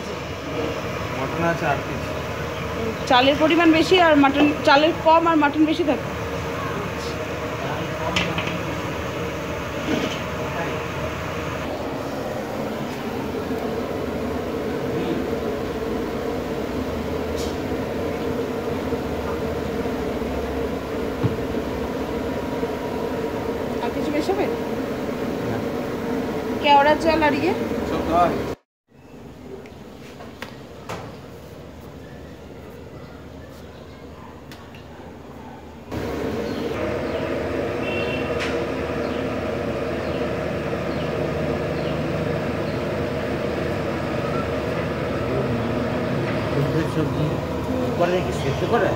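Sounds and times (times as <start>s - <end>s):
steady machinery drone: 0.0s - 28.6s, 35.9s - 48.9s.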